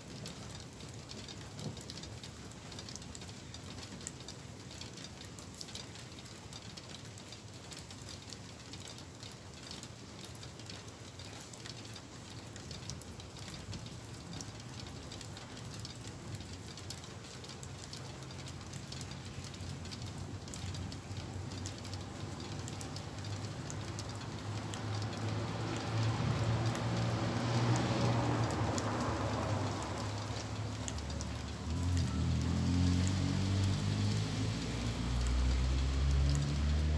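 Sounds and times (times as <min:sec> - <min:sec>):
rain pattering: 0:00.0 - 0:36.9.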